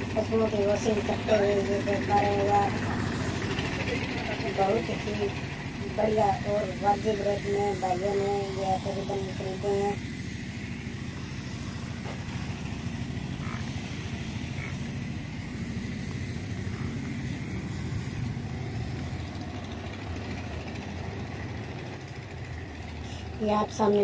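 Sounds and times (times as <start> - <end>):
low engine hum: 0.0 - 24.0.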